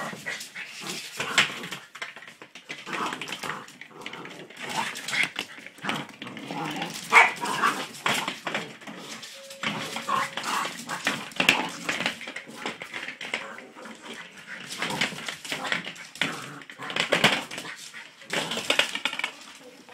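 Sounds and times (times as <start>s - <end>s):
paws scuffling on tiled floor: 0.0s - 19.9s.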